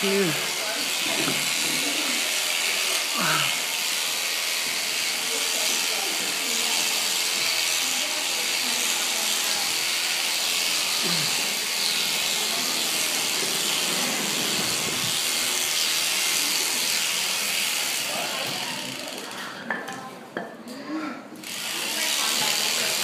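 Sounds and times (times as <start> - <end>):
electric shears buzzing: 0.0 - 19.4, 21.4 - 23.0.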